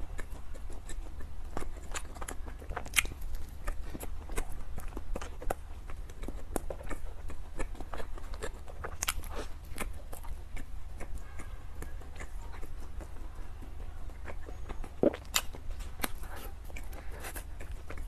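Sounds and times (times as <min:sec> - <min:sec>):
close-miked chewing: 0:00.0 - 0:18.0
wet mouth clicks and smacks: 0:00.2 - 0:13.1, 0:14.2 - 0:18.0.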